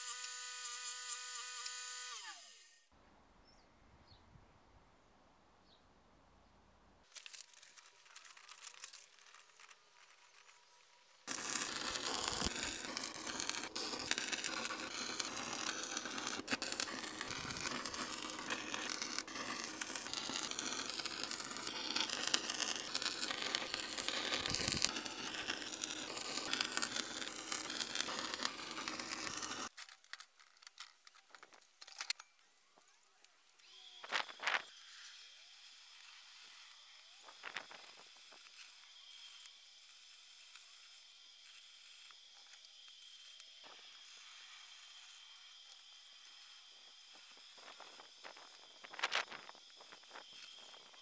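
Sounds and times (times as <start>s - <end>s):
arc welder crackling: 0.0s - 2.9s, 7.0s - 51.0s.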